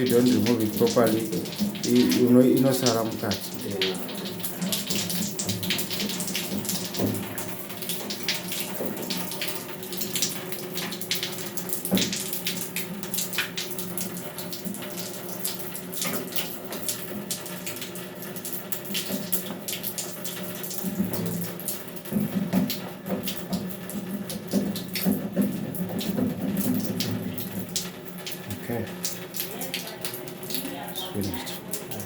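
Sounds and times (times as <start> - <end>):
tap running into sink: 0.0 - 32.0.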